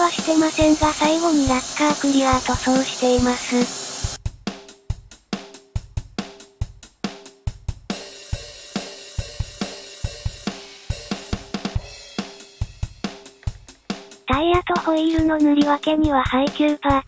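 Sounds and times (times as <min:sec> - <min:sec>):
drum kit playing steady beat: 0:00.0 - 0:17.0.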